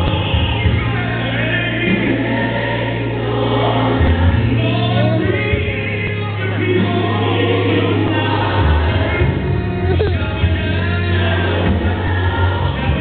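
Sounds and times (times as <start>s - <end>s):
choir singing gospel song: 0.0s - 13.0s
sustained bass notes: 0.0s - 13.0s.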